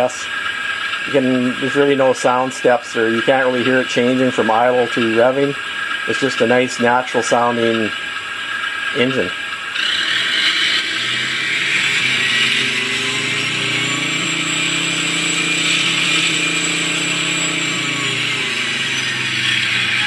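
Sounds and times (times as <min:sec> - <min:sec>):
faint high whine: 0:00.0 - 0:20.0
simulated tank engine revving: 0:00.0 - 0:20.0.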